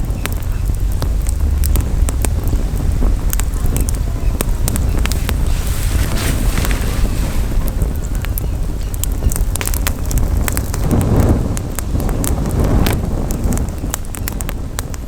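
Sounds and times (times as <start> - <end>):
campfire crackling and popping: 0.0 - 15.0
wind rumbling on microphone: 0.0 - 15.0.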